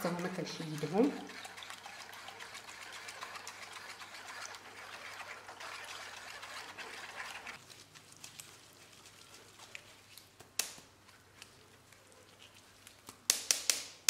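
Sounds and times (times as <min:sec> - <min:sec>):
juice trickling through sieve: 0:00.0 - 0:13.0.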